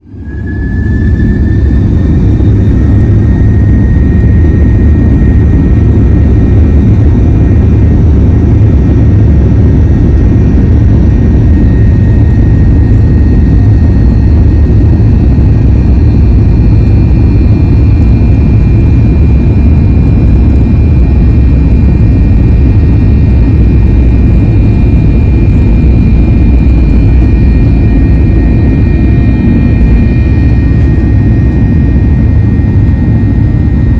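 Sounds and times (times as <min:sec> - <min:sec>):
higher engine whine: 0:00.0 - 0:33.9
jet engine low rumble: 0:00.0 - 0:33.9
thin jet engine whine: 0:00.0 - 0:33.9.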